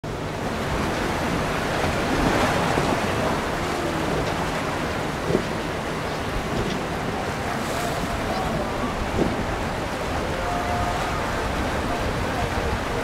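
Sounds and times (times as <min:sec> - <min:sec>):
waves and surf rushing: 0:00.0 - 0:13.0
wind buffeting microphone: 0:00.0 - 0:13.0.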